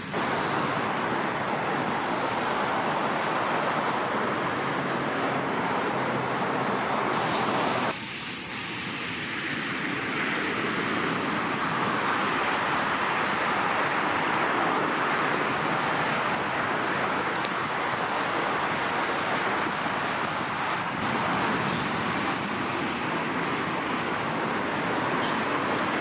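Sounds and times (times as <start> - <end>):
jet airliner passing by: 0.0 - 26.0.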